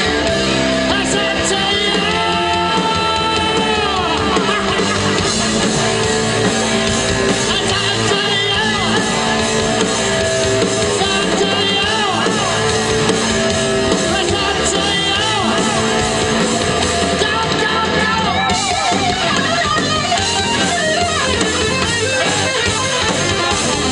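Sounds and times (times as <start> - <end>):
electric guitar lines: 0.0 - 23.9
person singing: 0.0 - 23.9
rock band playing live: 0.0 - 23.9.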